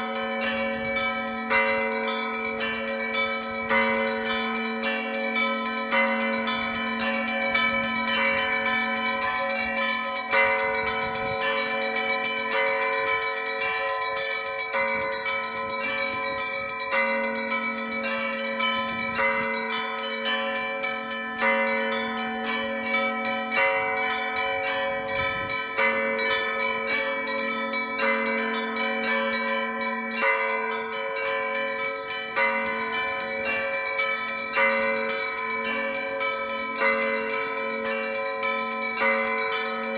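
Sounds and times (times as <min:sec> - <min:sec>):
large bells ringing: 0:00.0 - 0:39.9
small bells ringing rapidly: 0:00.0 - 0:39.9.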